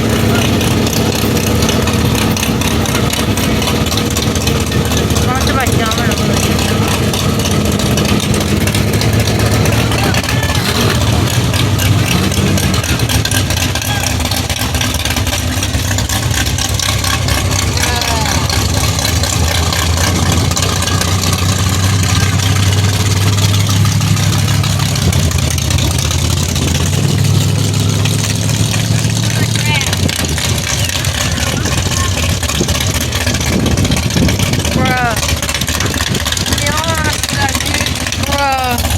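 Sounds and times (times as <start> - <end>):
indistinct voices: 0.0 - 38.9
truck engines idling: 0.0 - 38.9.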